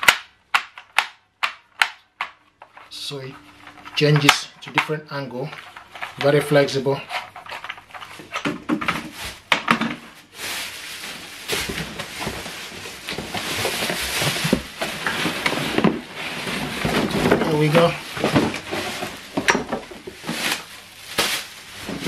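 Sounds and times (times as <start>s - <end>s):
cardboard and plastic rustling: 2.2s - 22.0s.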